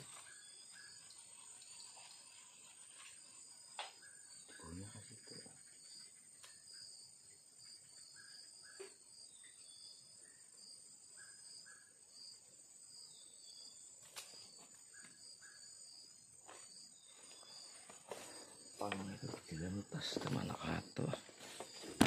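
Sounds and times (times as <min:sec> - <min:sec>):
insect chirps: 0:00.0 - 0:22.0
insect high-pitched drone: 0:00.0 - 0:22.0.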